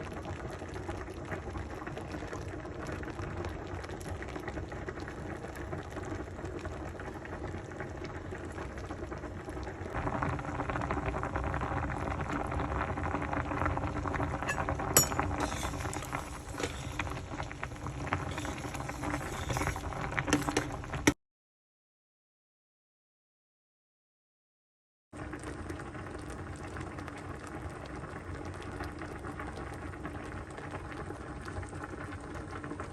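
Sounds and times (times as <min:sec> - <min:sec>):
food bubbling and crackling in pan: 0:00.0 - 0:21.2, 0:25.2 - 0:32.9.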